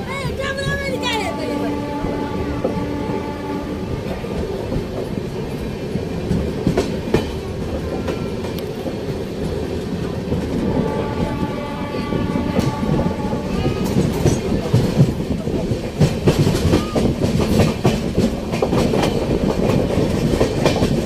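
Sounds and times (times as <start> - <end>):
train wheels rumbling and clacking: 0.0 - 21.0.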